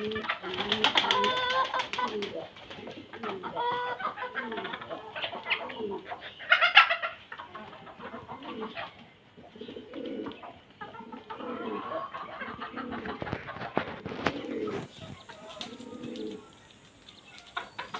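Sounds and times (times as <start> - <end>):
chickens clucking: 0.0 - 17.9
pigeons cooing: 0.0 - 17.9.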